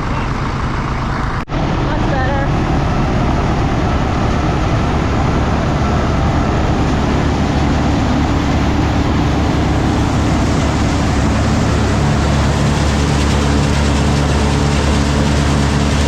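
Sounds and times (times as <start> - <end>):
silo blower running: 0.0 - 16.0
tractor engine drone: 0.0 - 16.0.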